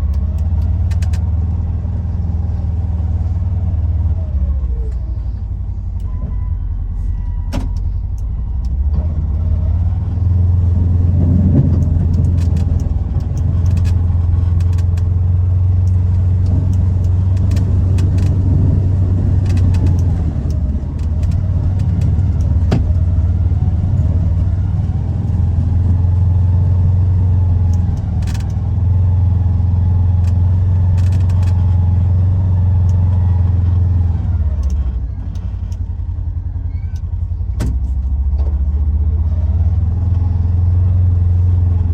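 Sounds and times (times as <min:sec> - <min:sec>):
utility vehicle engine running: 0:00.0 - 0:41.9.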